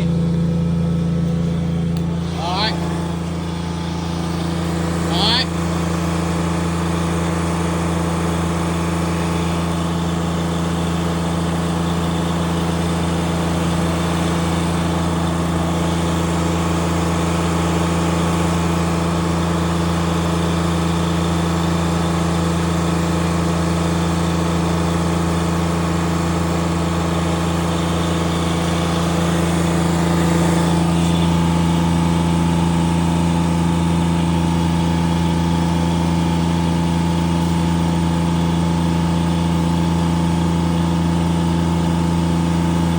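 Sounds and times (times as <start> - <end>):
utility vehicle engine idling: 0.0 - 42.9.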